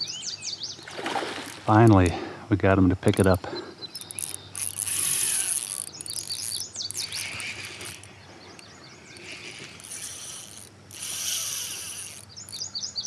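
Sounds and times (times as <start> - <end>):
songbird chirping: 0.0 - 2.0, 2.9 - 13.0.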